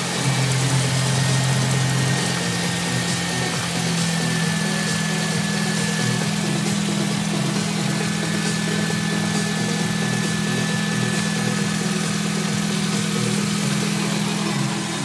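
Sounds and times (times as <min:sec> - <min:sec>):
car engine idling: 0:00.0 - 0:15.0
thin high whine: 0:00.0 - 0:15.0.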